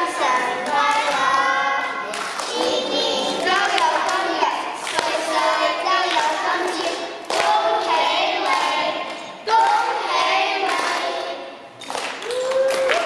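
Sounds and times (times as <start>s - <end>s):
young children singing: 0.0s - 11.7s.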